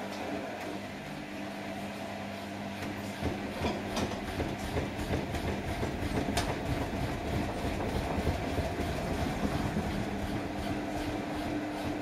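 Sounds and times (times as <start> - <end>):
motor hum: 0.0 - 12.0
washing machine drum churning: 0.0 - 12.0.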